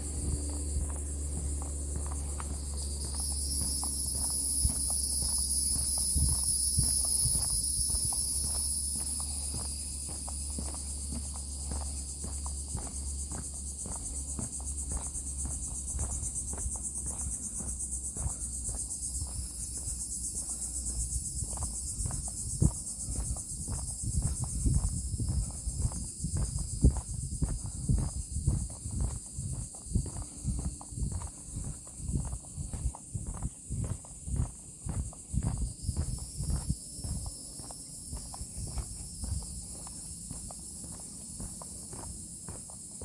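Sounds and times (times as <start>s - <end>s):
footsteps on wooden boardwalk: 0.0s - 43.0s
insects chorus: 0.0s - 43.0s.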